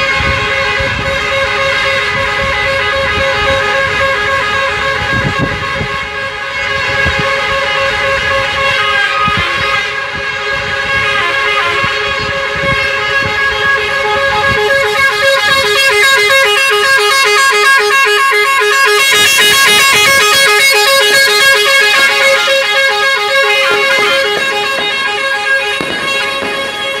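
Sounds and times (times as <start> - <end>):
musical horn playing a tune: 0.0 - 27.0
vehicle horns honking: 0.0 - 27.0.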